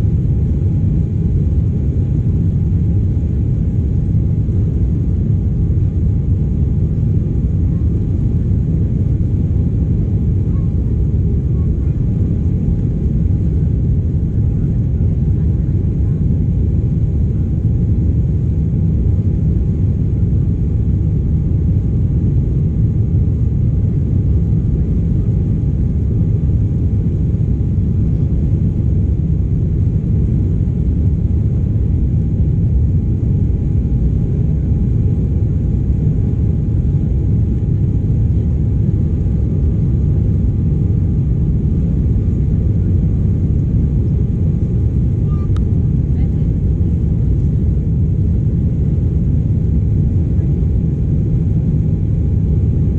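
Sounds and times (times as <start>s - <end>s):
faint steady whine: 0.0s - 52.9s
jet engine cabin rumble: 0.0s - 52.9s.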